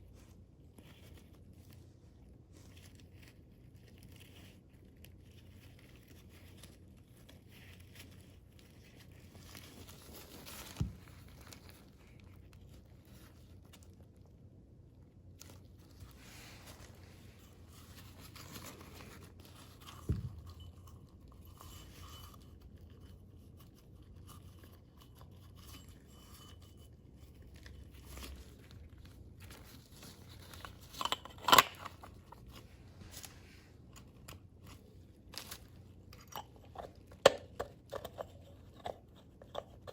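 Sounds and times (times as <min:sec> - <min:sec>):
handling and scraping small parts: 0:00.0 - 0:14.6, 0:15.2 - 0:39.9.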